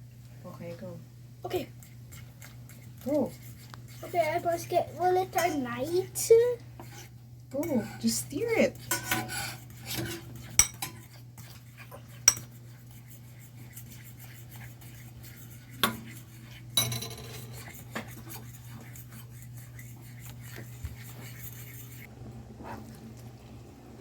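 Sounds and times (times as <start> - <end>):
utensil scraping against a pan: 1.5 - 22.8.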